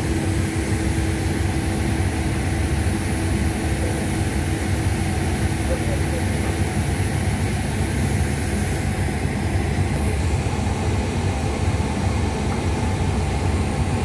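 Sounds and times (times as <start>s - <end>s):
ship engine rumbling: 0.0s - 14.0s.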